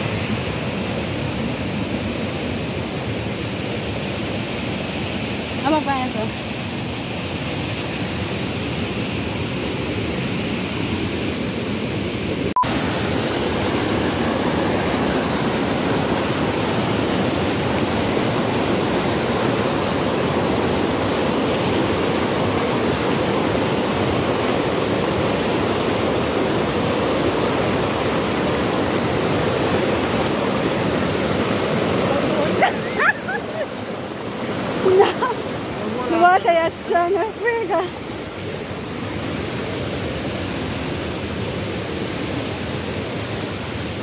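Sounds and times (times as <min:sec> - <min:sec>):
whitewater rushing over rocks: 0:00.0 - 0:44.0.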